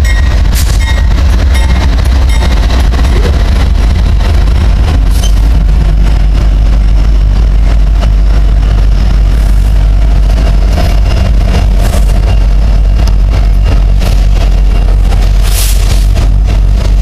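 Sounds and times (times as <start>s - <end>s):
deep locomotive engine rumble: 0.0s - 17.0s.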